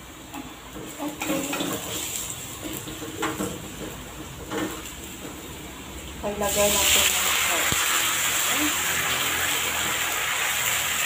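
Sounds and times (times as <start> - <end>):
garlic frying in oil: 0.0 - 11.0.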